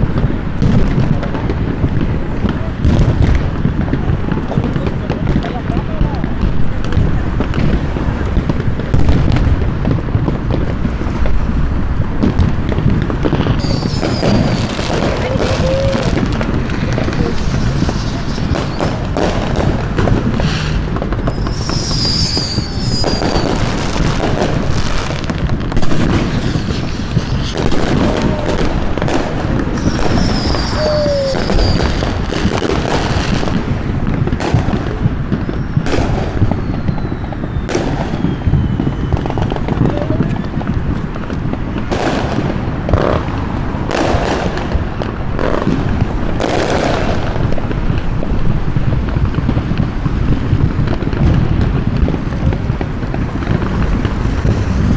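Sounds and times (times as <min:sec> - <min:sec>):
fireworks booming: 0:00.0 - 0:54.9
sharp firework cracks: 0:00.0 - 0:54.9
whistling rockets: 0:00.0 - 0:54.9.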